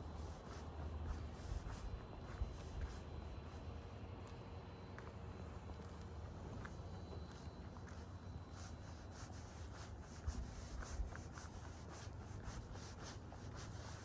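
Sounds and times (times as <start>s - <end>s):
footsteps scuffing on street: 0.0s - 14.0s.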